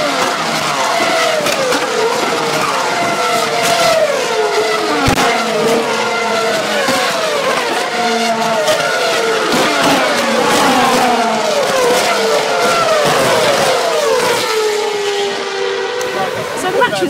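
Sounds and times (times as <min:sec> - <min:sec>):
racing cars passing at high revs: 0:00.0 - 0:17.0.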